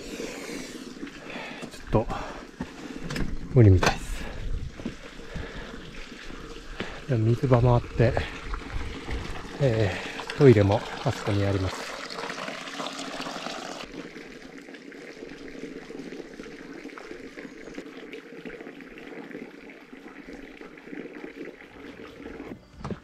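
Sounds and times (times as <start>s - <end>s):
water pouring and trickling: 0.0s - 23.0s.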